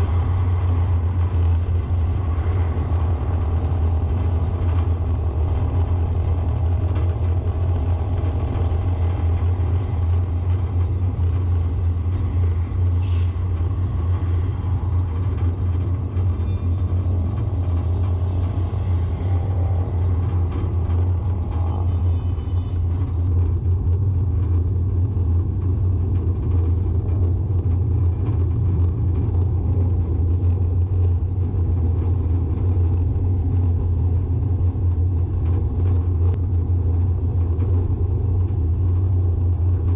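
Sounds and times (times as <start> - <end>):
vehicle driving on a street: 0.0 - 39.9.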